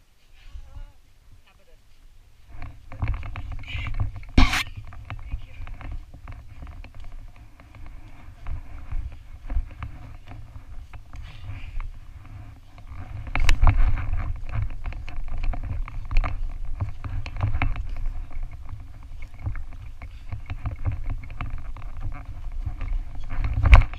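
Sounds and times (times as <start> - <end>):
low rumble of wind: 0.0 - 23.9
running footsteps on dirt trail: 1.8 - 23.9.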